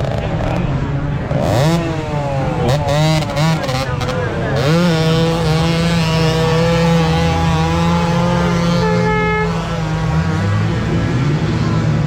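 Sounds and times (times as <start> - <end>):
dirt bike engines running: 0.0 - 12.0.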